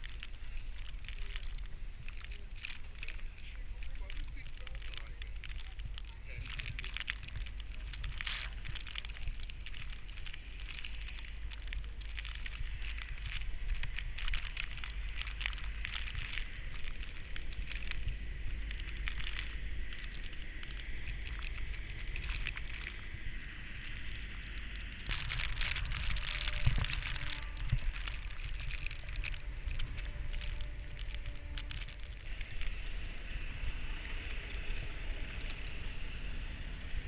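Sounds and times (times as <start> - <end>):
footsteps crunching in snow: 0.0 - 35.0.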